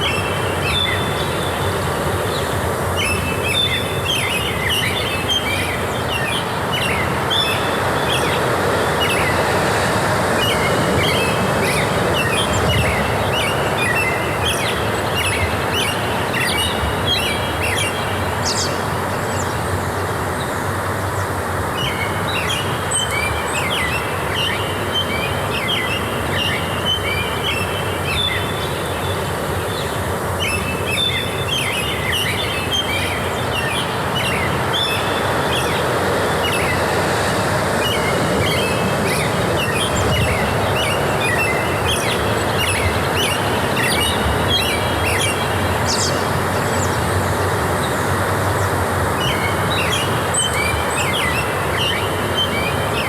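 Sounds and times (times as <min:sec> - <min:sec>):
birds chirping and singing: 0:00.0 - 0:53.0
steady rushing background noise: 0:00.0 - 0:53.0.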